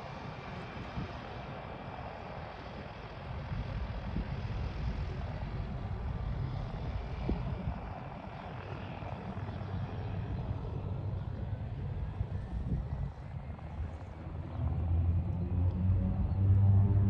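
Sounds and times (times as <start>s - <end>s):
propeller plane engine rumble: 0.0s - 17.0s.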